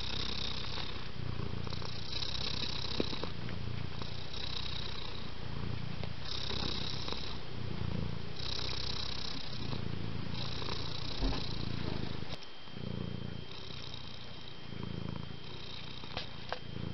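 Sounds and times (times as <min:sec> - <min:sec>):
cat purring: 0:00.0 - 0:16.9.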